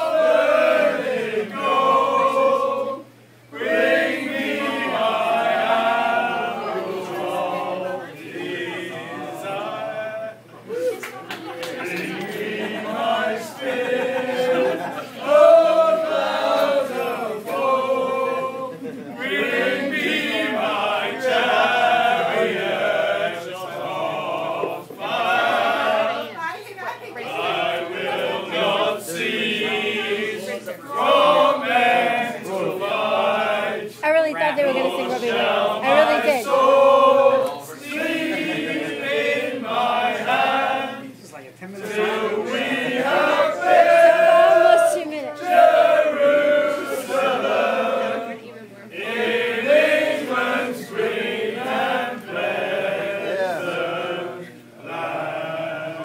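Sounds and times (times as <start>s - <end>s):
men singing unaccompanied: 0.0s - 10.5s, 11.8s - 26.4s, 27.3s - 56.0s.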